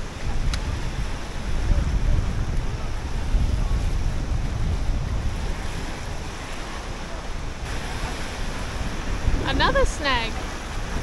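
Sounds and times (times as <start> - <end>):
surf breaking over rocks: 0.0 - 11.0
wind buffeting microphone: 0.0 - 11.0.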